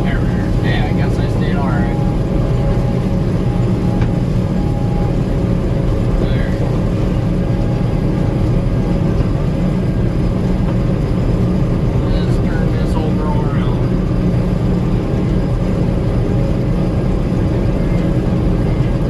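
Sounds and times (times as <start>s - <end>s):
combine harvester drone: 0.0s - 19.0s.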